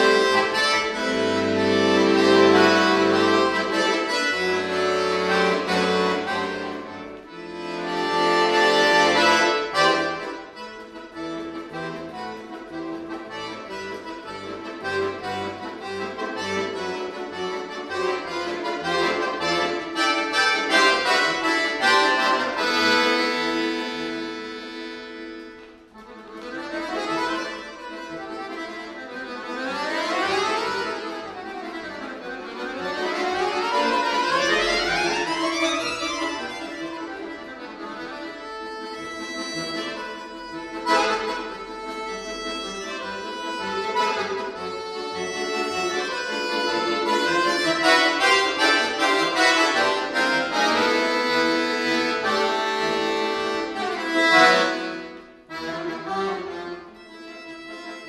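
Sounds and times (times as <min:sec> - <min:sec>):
button accordion playing: 0:00.0 - 0:58.0.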